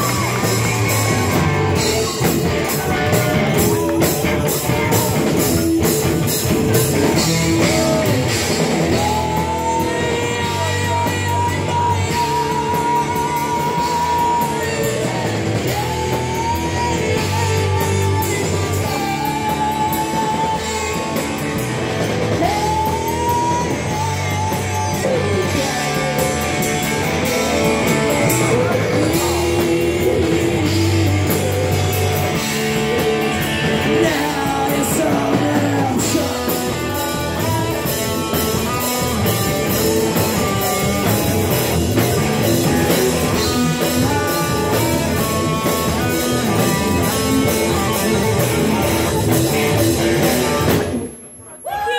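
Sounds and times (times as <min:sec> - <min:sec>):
drum kit: 0:00.0 - 0:51.4
electric guitar: 0:00.0 - 0:51.9.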